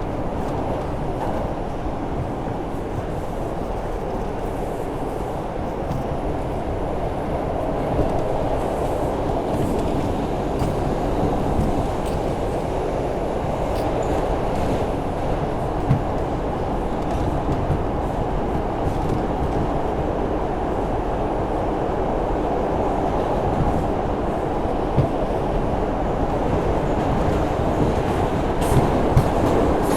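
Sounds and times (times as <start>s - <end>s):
subway train rumbling: 0.0s - 29.9s.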